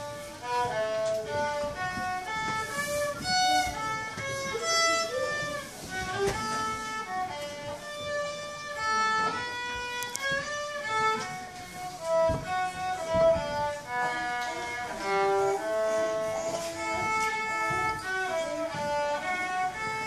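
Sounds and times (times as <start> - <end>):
solo violin tune: 0.0 - 20.0.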